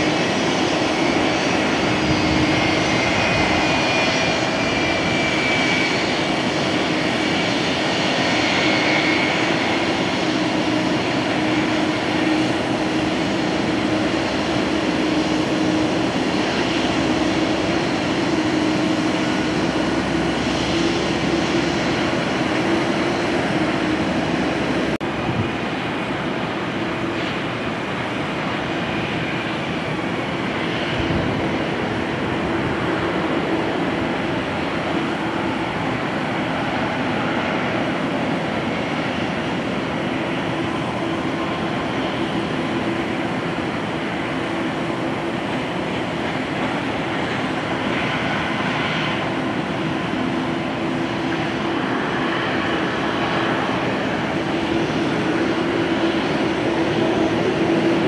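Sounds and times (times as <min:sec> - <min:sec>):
distant jet engines rumbling: 0:00.0 - 0:58.0.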